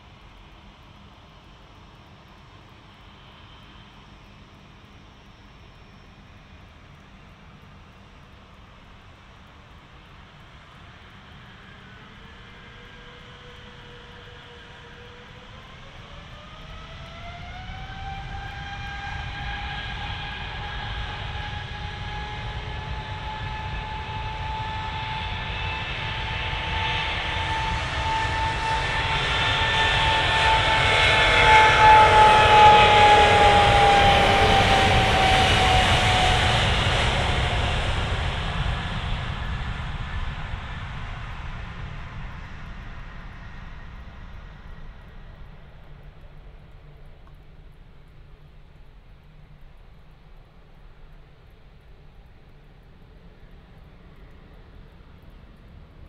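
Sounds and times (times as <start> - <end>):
jet engines whining and rumbling: 0.0 - 56.0.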